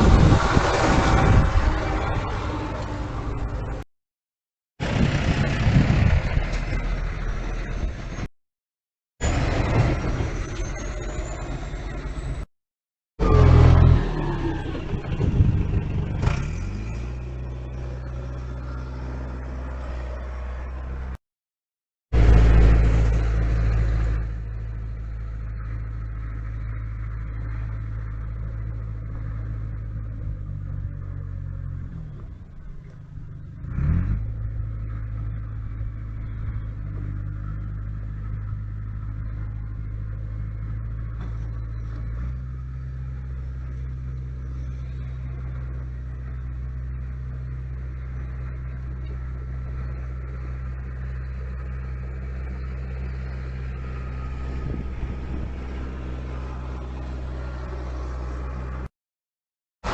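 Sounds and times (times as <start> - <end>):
diesel truck engine running: 4.8 - 8.3, 13.2 - 21.2, 22.2 - 58.9.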